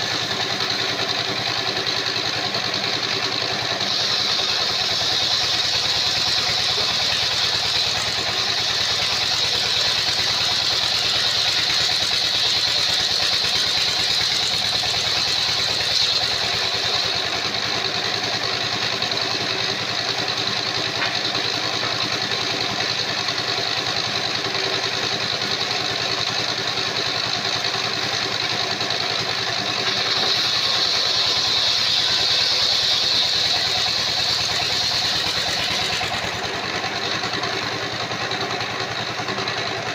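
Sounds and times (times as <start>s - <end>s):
circular sawmill running: 0.0s - 39.9s
high whine of saw blade: 0.0s - 39.9s.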